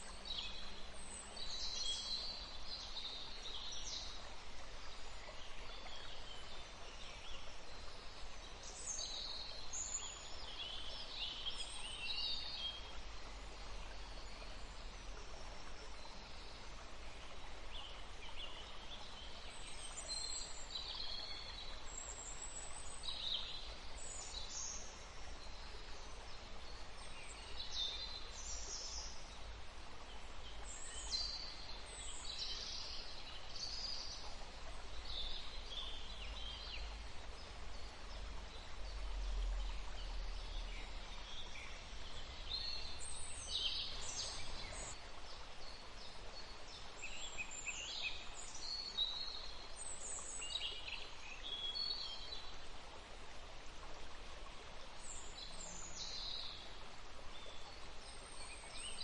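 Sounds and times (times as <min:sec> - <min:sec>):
faint hiss: 0:00.0 - 0:59.0.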